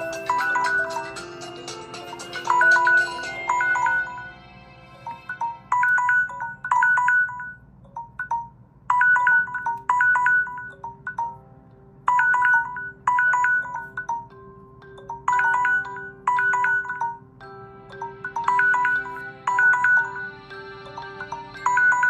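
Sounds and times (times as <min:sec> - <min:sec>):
phone alarm chime: 0:00.0 - 0:01.2, 0:02.1 - 0:04.4, 0:05.0 - 0:11.4, 0:12.1 - 0:14.3, 0:15.1 - 0:17.2, 0:18.0 - 0:22.0.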